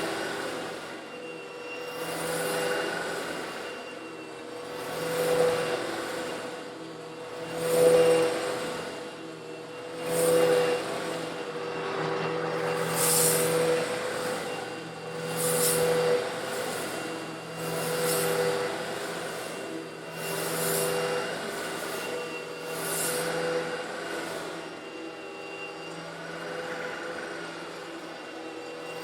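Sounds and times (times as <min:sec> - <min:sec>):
vacuum cleaner motor hum: 0:00.0 - 0:29.0.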